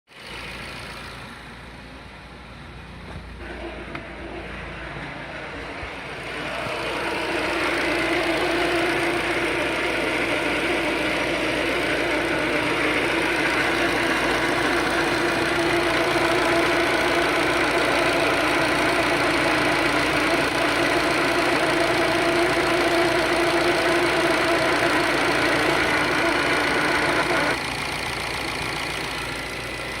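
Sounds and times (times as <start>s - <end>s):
car engine running: 0.1s - 2.2s, 3.1s - 30.0s
steady pitched hum from engine: 0.2s - 30.0s.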